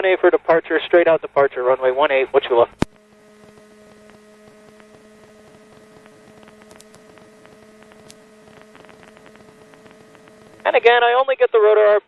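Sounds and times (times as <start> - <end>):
faint electrical hum: 0.0 - 12.0
static clicks and crackle: 1.9 - 11.9.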